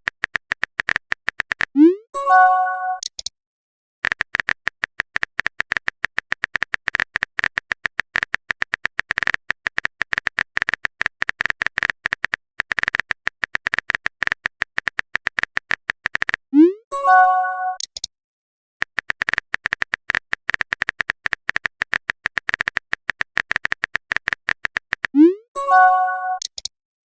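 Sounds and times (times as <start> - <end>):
keyboard typing clicks: 0.0 - 2.0, 2.9 - 3.3, 4.0 - 16.7, 17.6 - 18.1, 18.8 - 26.7.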